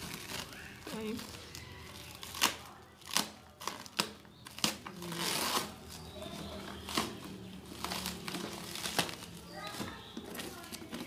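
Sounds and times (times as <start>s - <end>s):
cling wrap crackling and tearing: 0.0s - 11.0s.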